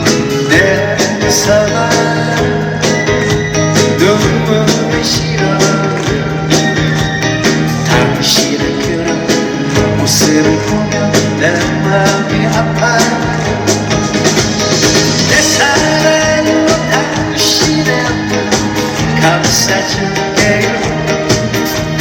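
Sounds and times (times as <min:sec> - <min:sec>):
person singing: 0:00.0 - 0:14.4, 0:15.0 - 0:22.0
bass line: 0:00.0 - 0:22.0
drum beat: 0:00.0 - 0:22.0.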